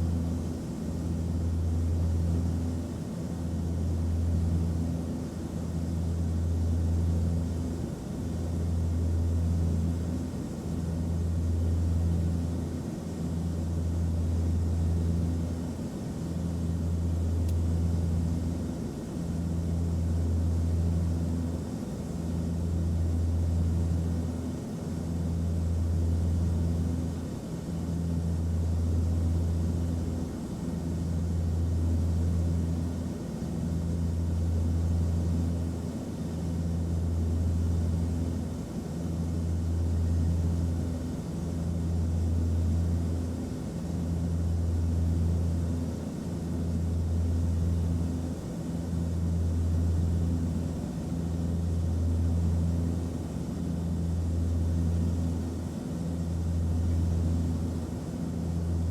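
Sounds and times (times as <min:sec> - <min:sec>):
airplane cabin drone: 0:00.0 - 0:58.9.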